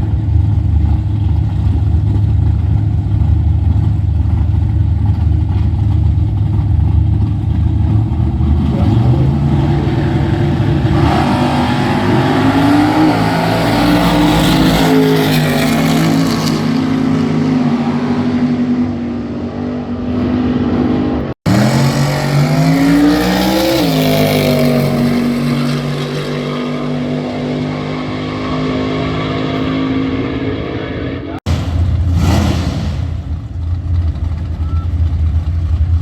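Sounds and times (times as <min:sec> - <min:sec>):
racing car engines revving: 0:00.0 - 0:36.0.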